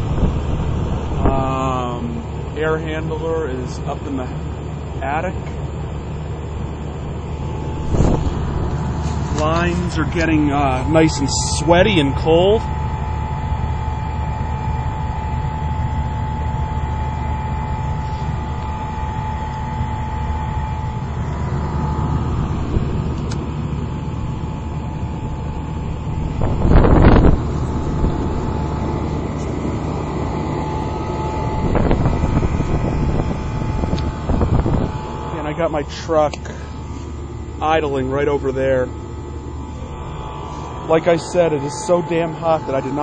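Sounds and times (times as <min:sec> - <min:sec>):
air conditioner unit humming: 0:00.0 - 0:43.0
thin constant tone: 0:00.0 - 0:43.0.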